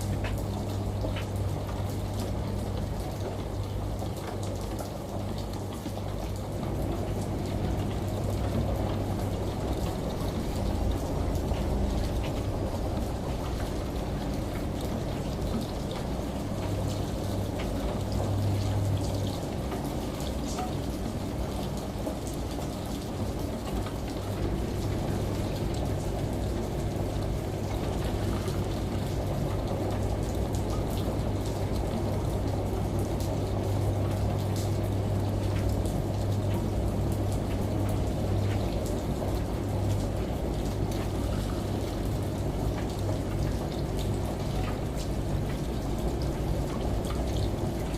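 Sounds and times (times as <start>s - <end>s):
running water: 0.0s - 47.9s
steady rain: 0.0s - 47.9s
washing machine humming: 0.0s - 47.9s.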